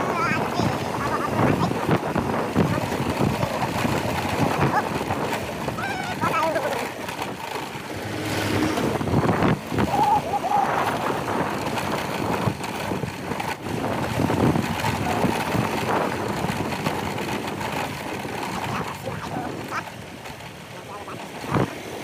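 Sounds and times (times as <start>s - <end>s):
motorcycle engine on rough road: 0.0s - 22.0s.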